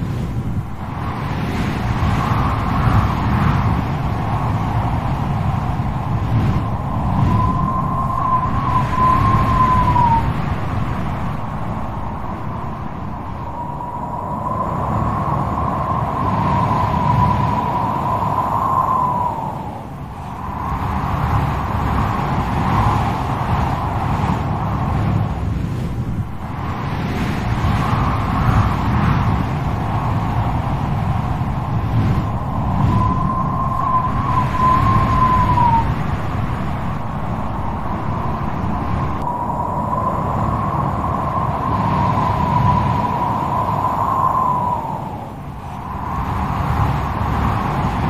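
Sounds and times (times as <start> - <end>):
wind blowing hard: 0.0 - 48.0
wind whistling: 0.0 - 48.0.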